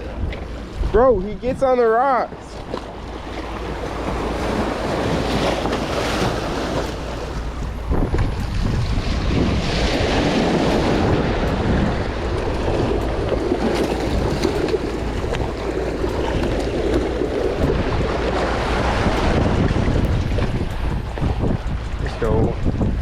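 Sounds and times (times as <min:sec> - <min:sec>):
surf washing against rocks: 0:00.0 - 0:23.0
wind buffeting microphone: 0:00.0 - 0:23.0.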